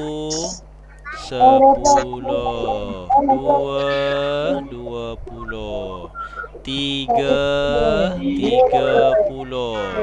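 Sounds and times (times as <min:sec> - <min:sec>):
children chanting in sing-song: 0:00.0 - 0:10.0.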